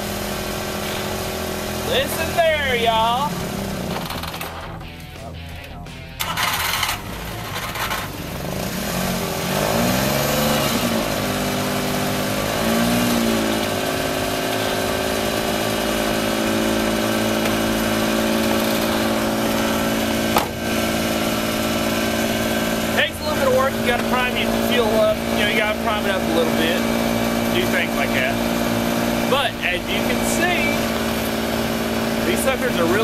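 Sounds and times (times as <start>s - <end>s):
engine cranking and idling: 0.0s - 33.0s.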